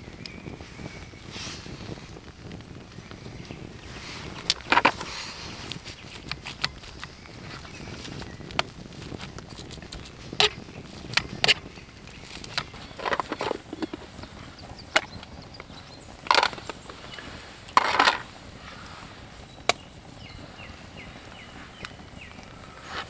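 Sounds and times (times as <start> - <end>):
crunching sounds: 1.2 - 20.1.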